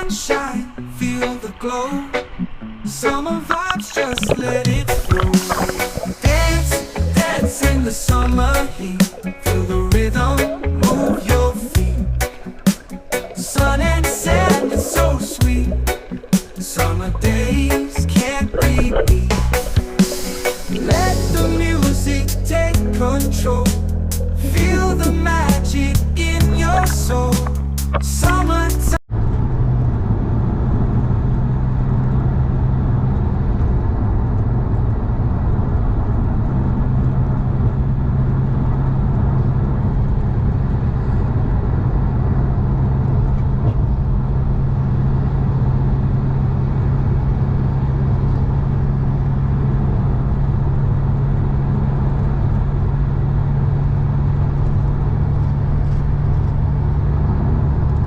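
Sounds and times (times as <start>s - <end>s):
vehicle engine drone: 0.0s - 58.0s.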